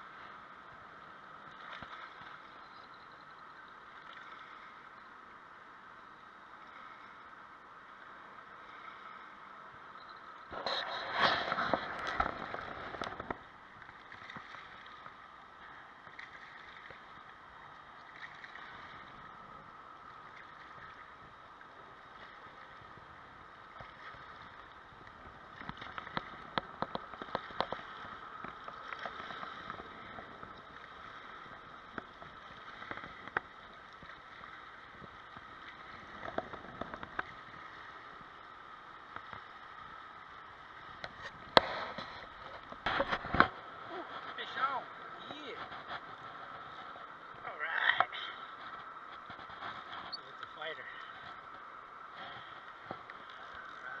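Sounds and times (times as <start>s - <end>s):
faint outdoor hiss: 0.0s - 54.0s.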